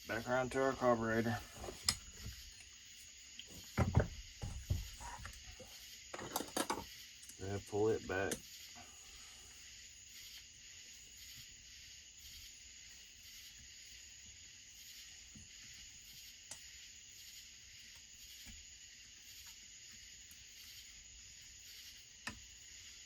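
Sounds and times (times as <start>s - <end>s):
faint high-pitched hiss: 0.0s - 23.0s.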